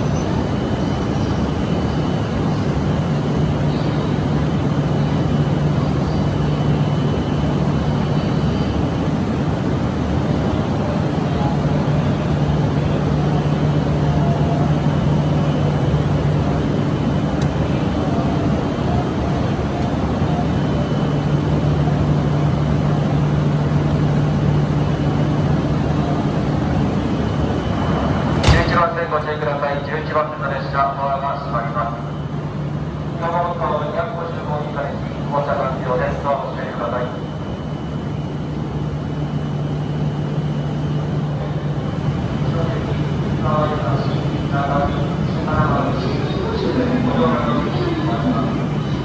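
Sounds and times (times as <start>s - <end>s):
train mechanical hum: 0.0s - 49.0s.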